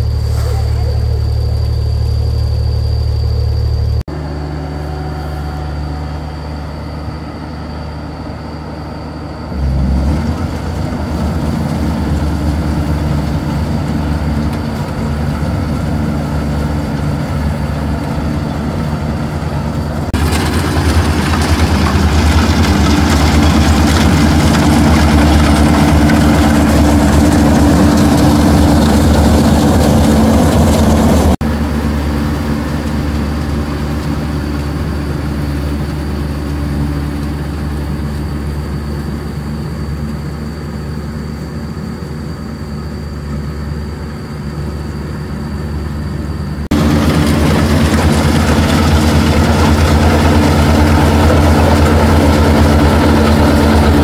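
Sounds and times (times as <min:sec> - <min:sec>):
dense rushing mechanical noise: 0:00.0 - 0:54.0
harvester engine running: 0:00.0 - 0:54.0.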